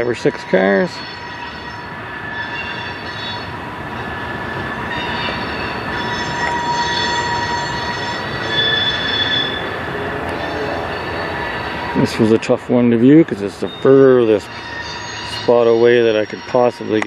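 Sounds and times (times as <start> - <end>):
train wheels squealing: 0.0 - 17.0
wheels rumbling on rails: 0.0 - 17.0.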